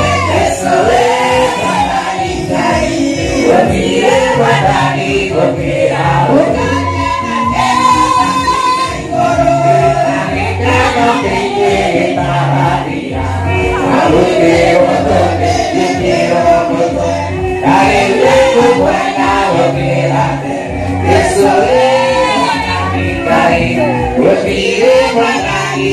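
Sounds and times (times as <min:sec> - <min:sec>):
bass line: 0:00.0 - 0:25.9
choir singing gospel: 0:00.0 - 0:25.9.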